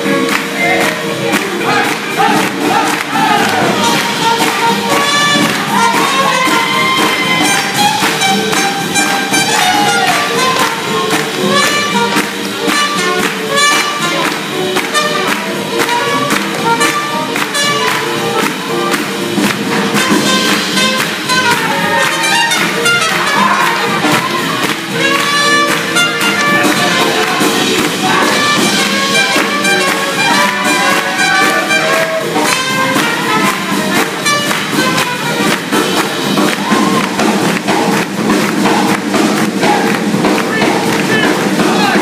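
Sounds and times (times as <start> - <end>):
drums with steady beat: 0.0 - 42.0
guitar: 0.0 - 42.0
trumpet: 0.0 - 42.0.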